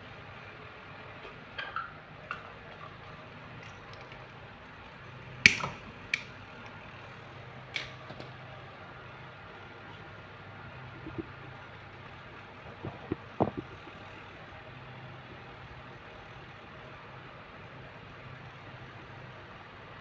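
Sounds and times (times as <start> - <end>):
steady low hum: 2.6 - 20.0.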